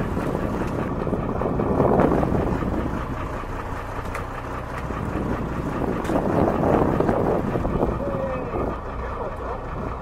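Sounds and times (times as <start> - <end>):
boat engine rumble: 0.0 - 10.0
wind buffeting microphone: 0.0 - 10.0.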